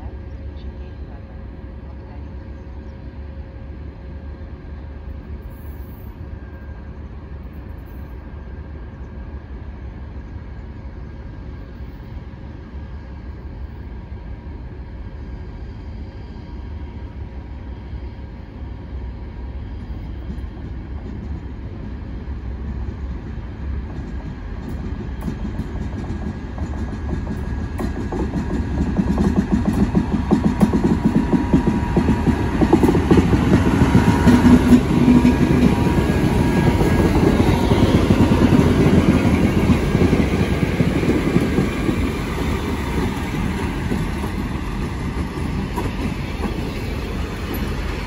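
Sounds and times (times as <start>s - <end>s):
diesel locomotive engine rumble: 0.0s - 48.0s.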